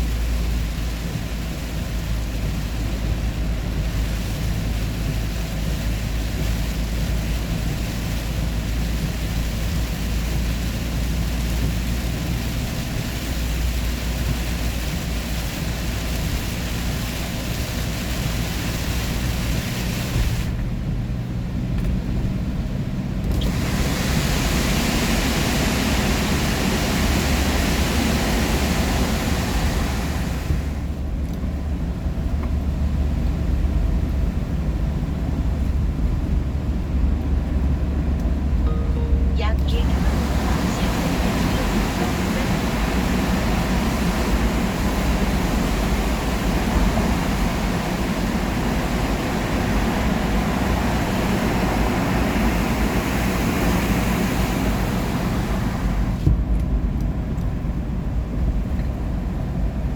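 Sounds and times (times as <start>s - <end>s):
vehicle road and engine noise: 0.0s - 59.9s.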